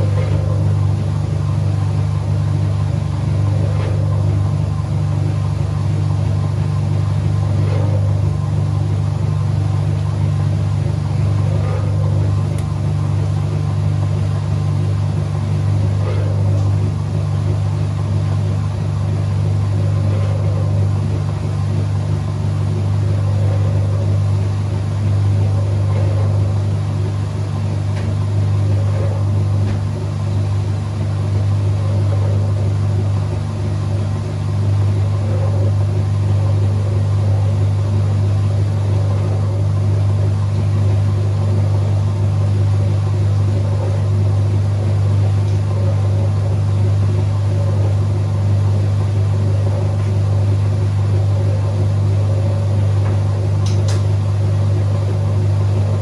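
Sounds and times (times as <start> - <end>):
washing machine motor humming: 0.0 - 56.0.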